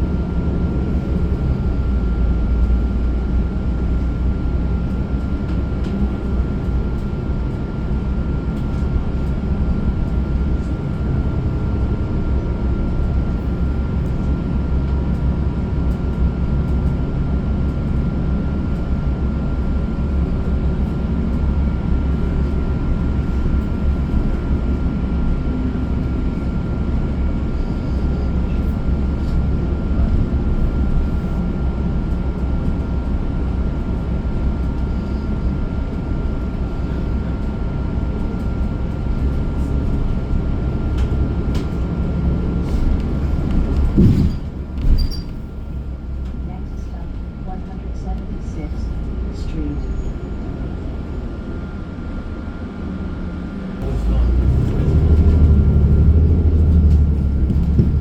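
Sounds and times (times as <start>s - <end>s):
bus rumbling on road: 0.0s - 58.0s.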